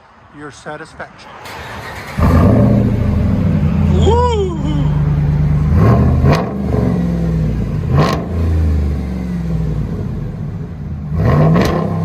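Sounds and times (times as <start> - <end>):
truck engine idling and revving: 1.2 - 12.0.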